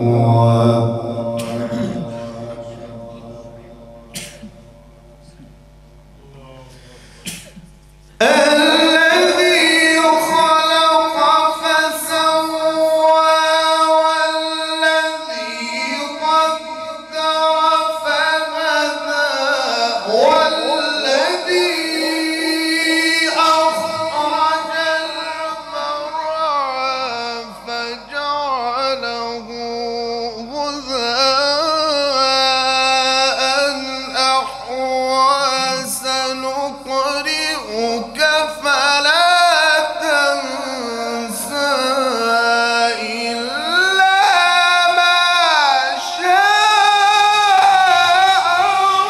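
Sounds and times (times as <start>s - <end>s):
man chanting melodic recitation: 0.0s - 5.4s, 8.2s - 49.0s.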